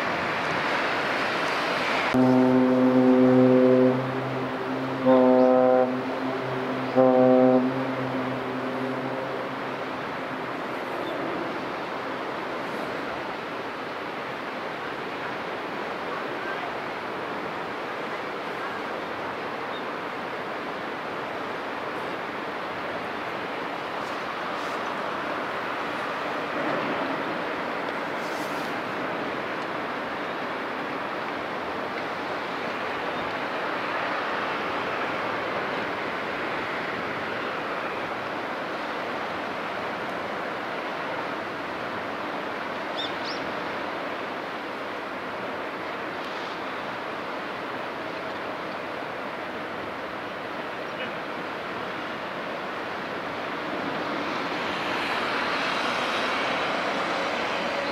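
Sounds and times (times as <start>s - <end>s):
waves and water rushing: 0.0s - 57.9s.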